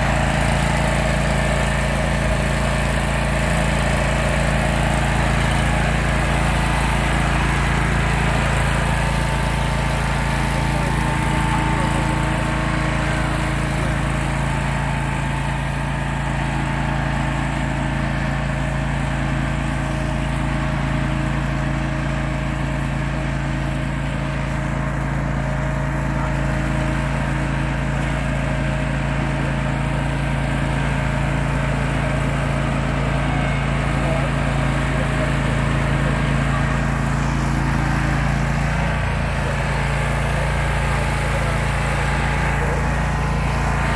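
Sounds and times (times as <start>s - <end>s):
lawn tractor engine running: 0.0s - 43.9s.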